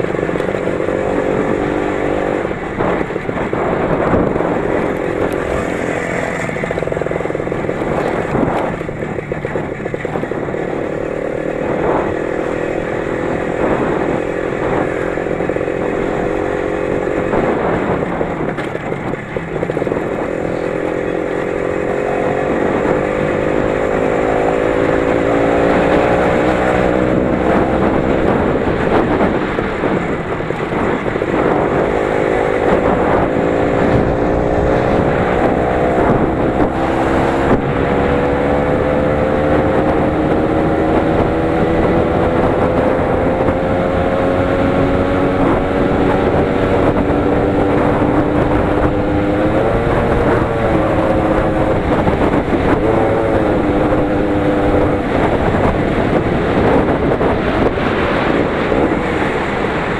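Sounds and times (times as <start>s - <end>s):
engine running under load: 0.0s - 59.9s.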